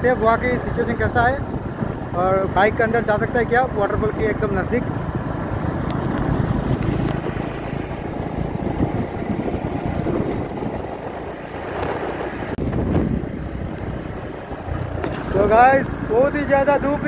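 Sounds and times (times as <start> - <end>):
motorcycle engine: 0.0 - 17.0
road noise: 0.0 - 17.0
wind rushing over microphone: 0.0 - 17.0.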